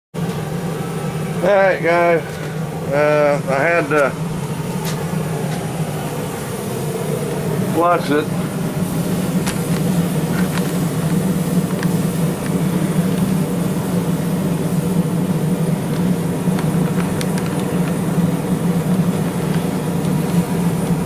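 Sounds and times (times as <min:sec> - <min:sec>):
forge low hum: 0:00.2 - 0:21.0.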